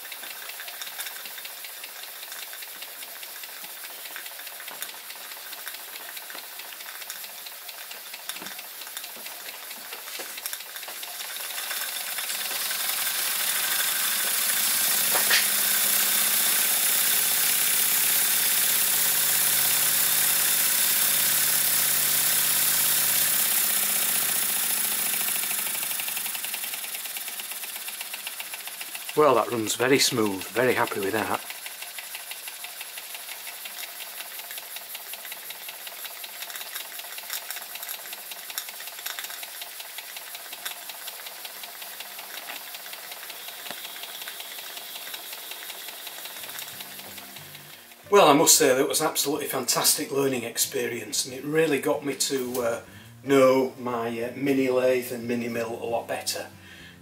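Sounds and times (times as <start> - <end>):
model steam engine hissing and rattling: 0.0 - 52.8.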